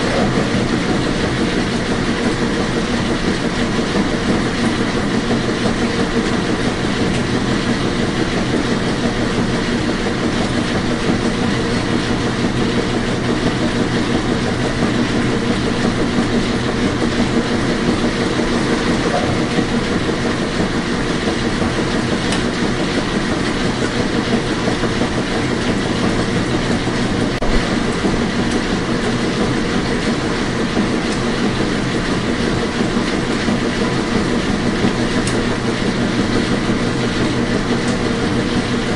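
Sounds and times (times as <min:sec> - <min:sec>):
washing machine whirring: 0:00.0 - 0:38.9.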